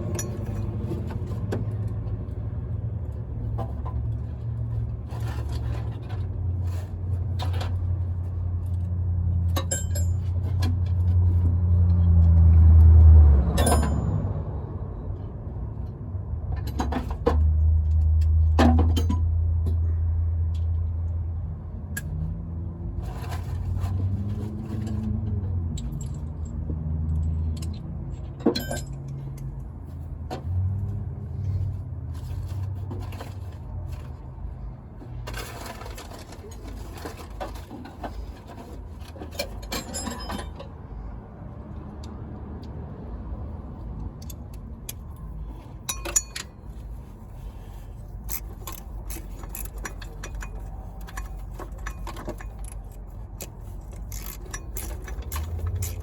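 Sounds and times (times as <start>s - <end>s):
tools clinking and scraping on metal: 0.0s - 2.0s, 3.4s - 12.6s, 13.5s - 14.3s, 16.5s - 19.8s, 23.0s - 41.1s, 44.2s - 56.0s
low engine-like rumble: 0.0s - 56.0s.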